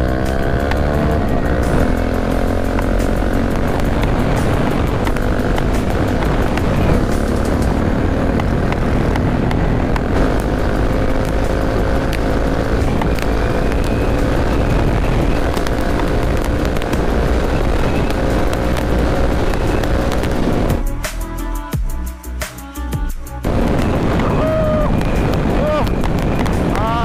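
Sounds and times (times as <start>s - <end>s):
wind rushing over microphone: 0.0s - 20.9s, 23.4s - 27.0s
motorcycle engine running: 0.0s - 21.2s, 23.0s - 27.0s.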